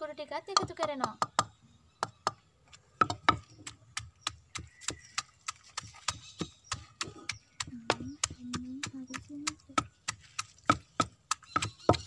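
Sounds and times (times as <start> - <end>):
wooden pestle pounding in mortar: 0.5 - 2.4, 3.0 - 12.0.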